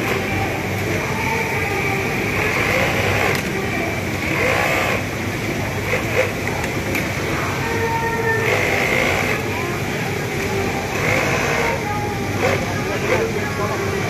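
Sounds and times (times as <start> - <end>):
faint voices: 0.0 - 14.0
sewing machines droning: 0.0 - 14.0.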